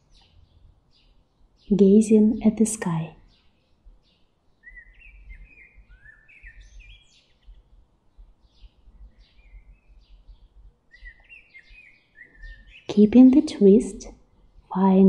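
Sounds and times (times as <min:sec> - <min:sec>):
faint low outdoor rumble: 0:00.0 - 0:15.0
small birds chirping: 0:00.0 - 0:15.0.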